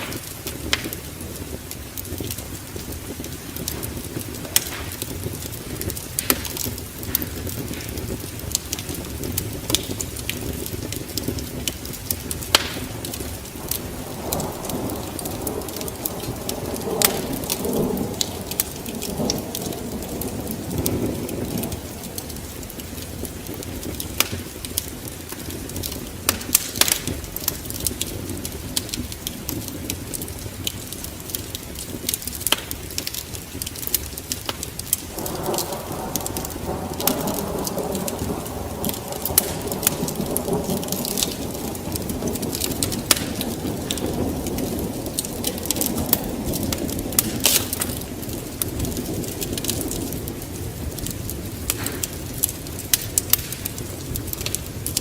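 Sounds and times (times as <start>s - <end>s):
steady rain: 0.0s - 55.0s
thunder rumbling: 0.0s - 55.0s
wood fire crackling: 0.0s - 55.0s.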